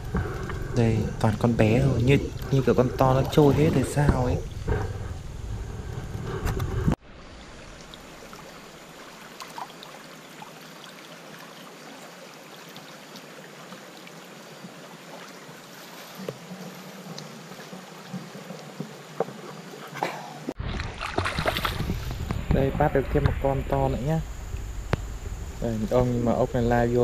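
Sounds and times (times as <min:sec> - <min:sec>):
faint ticks and splashes: 0:00.0 - 0:04.9, 0:07.1 - 0:20.0, 0:20.7 - 0:27.0
stream flowing: 0:00.0 - 0:05.2, 0:07.0 - 0:27.0.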